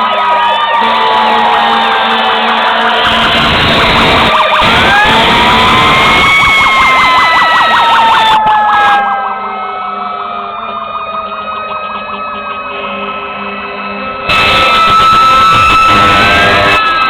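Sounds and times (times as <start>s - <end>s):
fast yelp siren: 0.0s - 17.0s
wail siren winding down: 0.0s - 17.0s.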